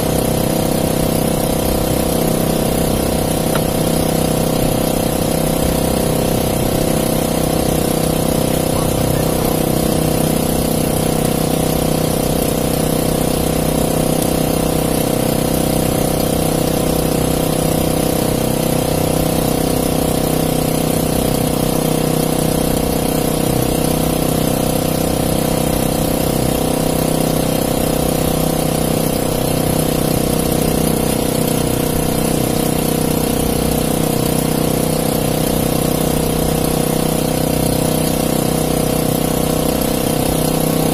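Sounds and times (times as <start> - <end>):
small boat engine running: 0.0 - 40.9.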